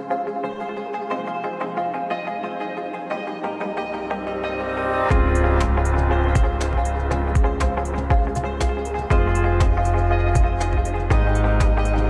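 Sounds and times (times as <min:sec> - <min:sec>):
ambient background music: 0:00.0 - 0:12.0.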